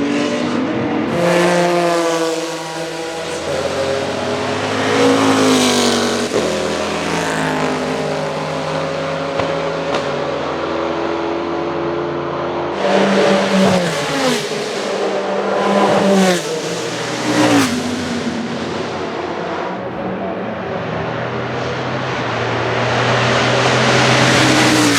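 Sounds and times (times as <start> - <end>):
car engine revving hard: 0.0 - 24.9
racing car engines: 0.0 - 24.9.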